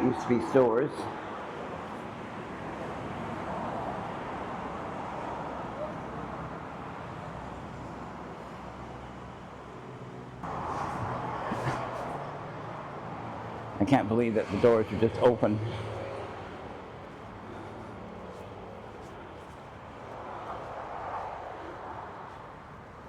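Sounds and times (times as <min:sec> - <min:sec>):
passing road traffic: 0:00.0 - 0:23.0.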